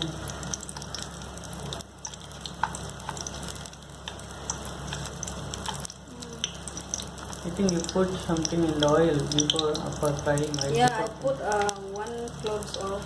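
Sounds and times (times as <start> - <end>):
food deep-frying in oil: 0.0 - 13.0
oil crackles and pops: 0.0 - 13.0.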